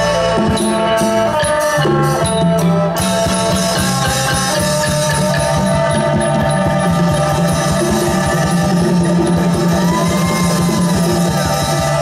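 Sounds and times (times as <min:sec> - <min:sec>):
quick steady percussion beat: 0:00.0 - 0:12.0
sustained melody notes: 0:00.0 - 0:12.0.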